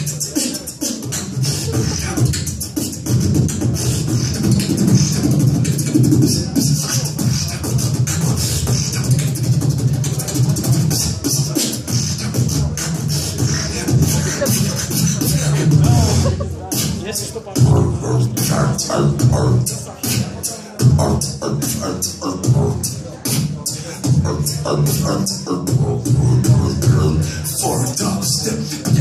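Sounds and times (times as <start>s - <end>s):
person beatboxing: 0.0s - 29.0s.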